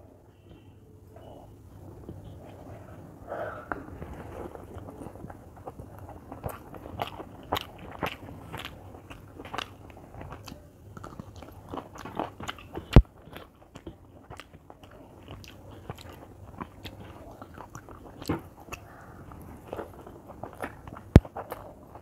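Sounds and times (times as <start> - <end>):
chewing and crunching food: 0.4 - 22.0.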